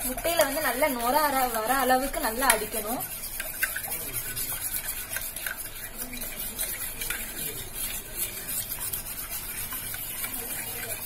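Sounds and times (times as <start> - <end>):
spoon beating eggs in metal pot: 0.0 - 11.0.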